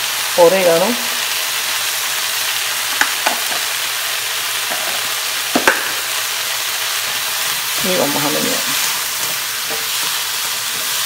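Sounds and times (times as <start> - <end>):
onion and garlic sizzling in pan: 0.0 - 11.0.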